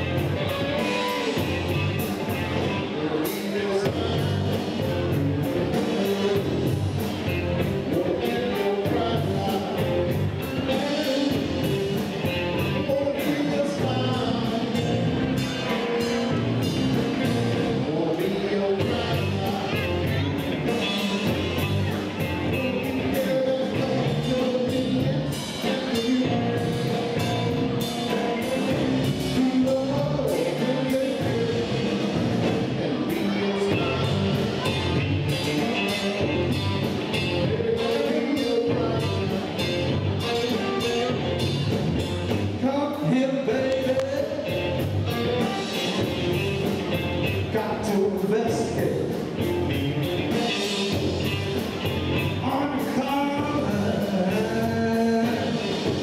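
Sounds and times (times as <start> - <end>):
drum kit beat: 0.0 - 42.6, 43.6 - 56.0
bass guitar: 0.0 - 56.0
electric guitar: 0.0 - 56.0.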